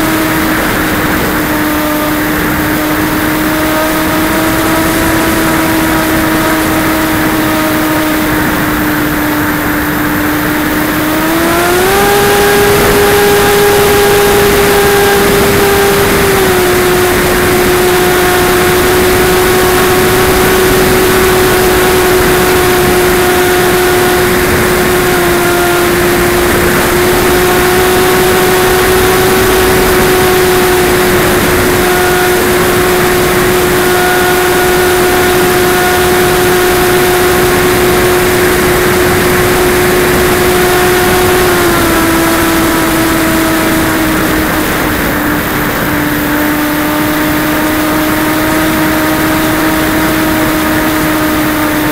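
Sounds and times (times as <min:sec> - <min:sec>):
electric motor propeller whine: 0:00.0 - 0:51.9
wind rush on microphone: 0:00.0 - 0:51.9.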